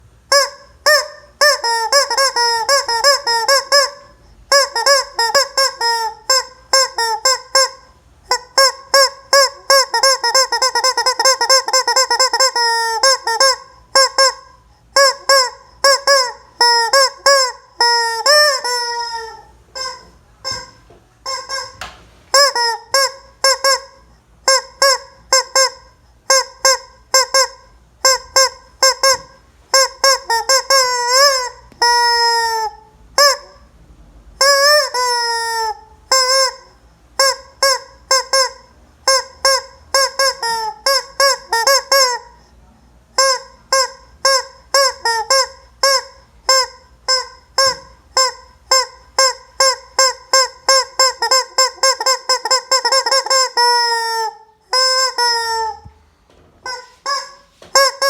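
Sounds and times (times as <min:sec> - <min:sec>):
squeaky toy chicken squawking: 0:00.3 - 0:33.7, 0:34.4 - 0:42.5, 0:43.1 - 0:55.9, 0:56.6 - 0:58.0.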